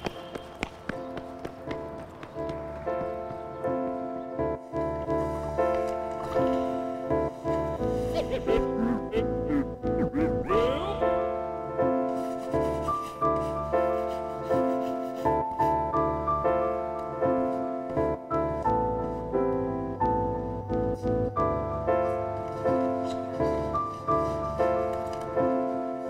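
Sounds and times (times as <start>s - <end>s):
soft piano chords: 0.0s - 26.0s.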